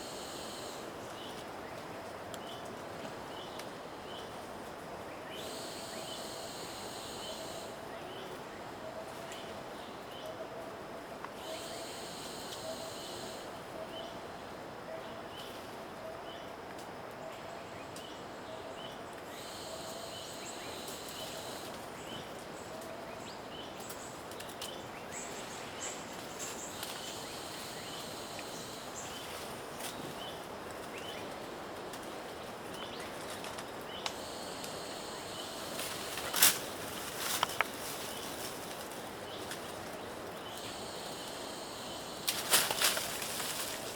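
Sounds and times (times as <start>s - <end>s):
steady hiss: 0.0s - 10.1s, 10.8s - 15.9s, 16.7s - 43.9s
insects buzzing: 0.0s - 10.2s, 10.8s - 16.9s, 17.7s - 43.9s.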